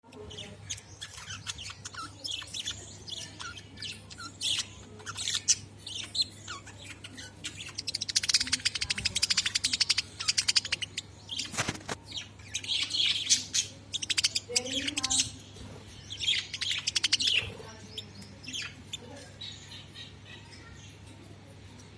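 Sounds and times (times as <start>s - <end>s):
budgerigars chirping and chattering: 0.0s - 21.9s.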